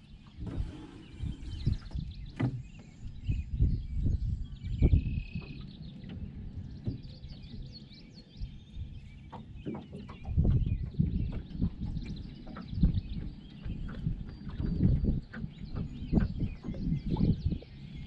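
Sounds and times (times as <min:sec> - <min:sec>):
small birds chirping: 0:00.0 - 0:18.0
wind buffeting microphone: 0:00.0 - 0:18.0.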